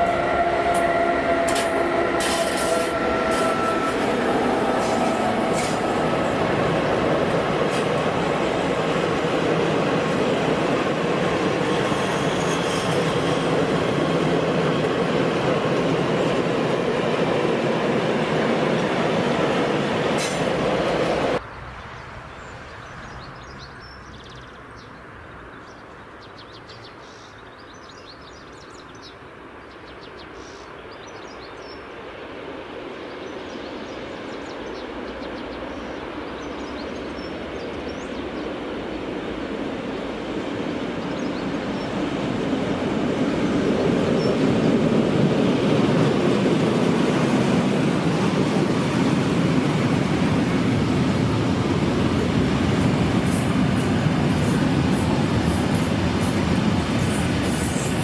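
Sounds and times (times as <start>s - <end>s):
train rumbling: 0.0s - 21.4s, 31.9s - 58.0s.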